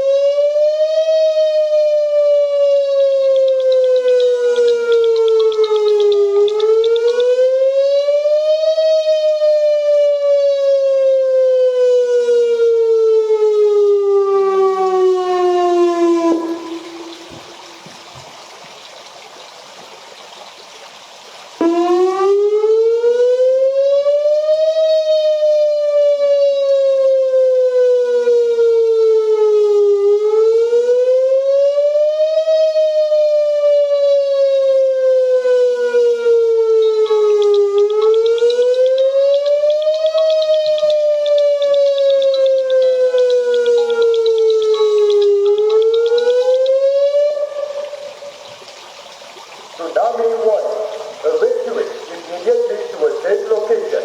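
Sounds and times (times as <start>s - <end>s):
warning siren wailing: 0.0s - 18.3s, 21.6s - 49.0s, 49.7s - 54.0s.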